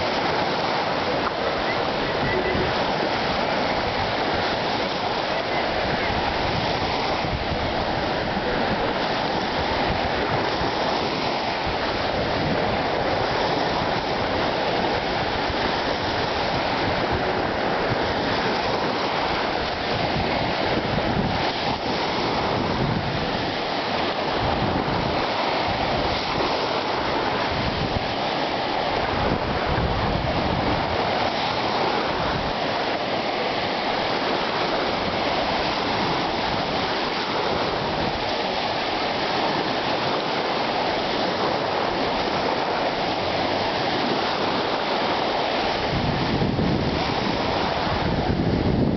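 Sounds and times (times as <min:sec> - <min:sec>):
surf washing up beach: 0:00.0 - 0:48.9
wind on microphone: 0:00.0 - 0:48.9.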